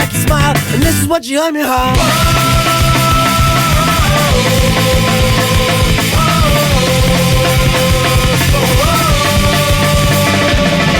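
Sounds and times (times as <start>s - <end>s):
driving drums: 0.0s - 1.1s, 1.7s - 10.9s
bass guitar: 0.0s - 1.2s, 1.8s - 10.9s
punk rock song: 0.0s - 10.9s.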